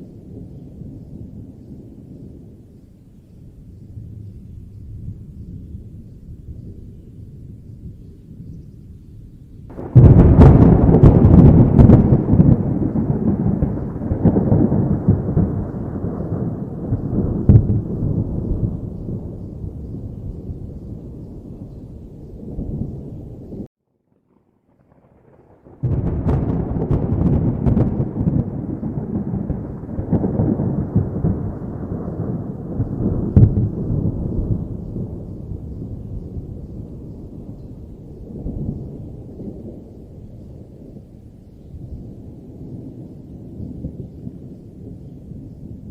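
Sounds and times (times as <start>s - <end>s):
close thunderclap with crackles: 0.0s - 45.9s
distant thunder rumble: 0.0s - 45.9s.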